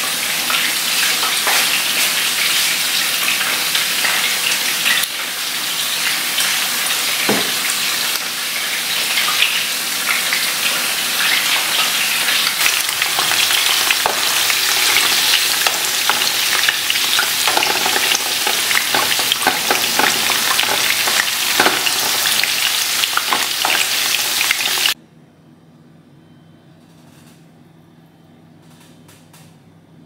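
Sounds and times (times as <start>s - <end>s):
greens sizzling in a frying pan: 0.0s - 25.0s.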